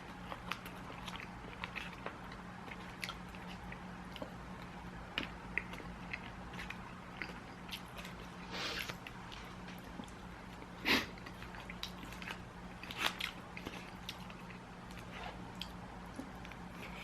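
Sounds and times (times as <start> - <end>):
close chewing with crunches: 0.0 - 17.0.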